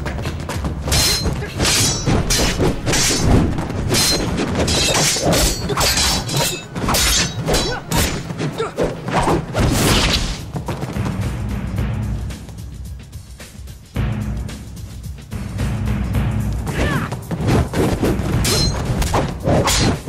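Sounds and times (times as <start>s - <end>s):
tense music score: 0.0s - 20.0s.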